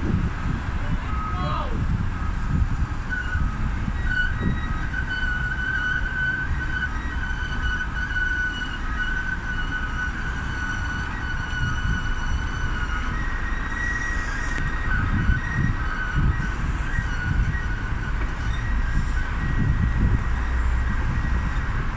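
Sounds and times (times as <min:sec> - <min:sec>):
road traffic rumble: 0:00.0 - 0:21.9.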